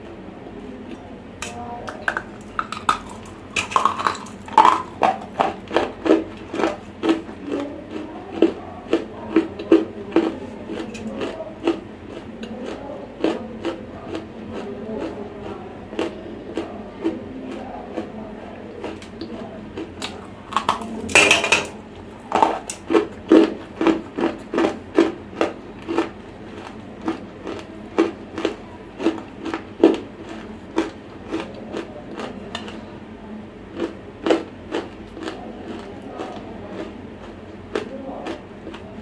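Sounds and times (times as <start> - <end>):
crunchy chewing of clay: 0.8 - 33.0, 33.6 - 39.0.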